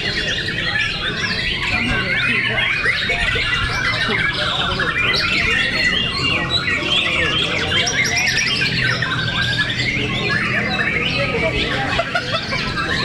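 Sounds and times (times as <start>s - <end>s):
birds whistling and trilling: 0.0s - 13.0s.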